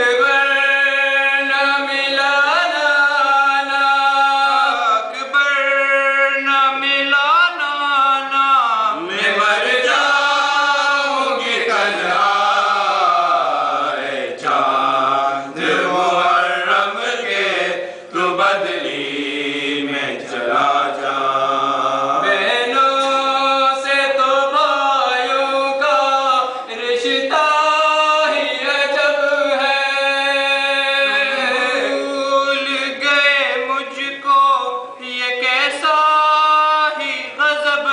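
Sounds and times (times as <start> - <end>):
men chanting a lament: 0.0 - 37.9.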